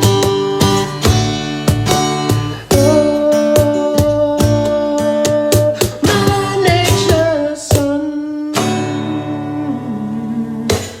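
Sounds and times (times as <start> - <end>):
acoustic guitar chords ringing: 0.0 - 11.0.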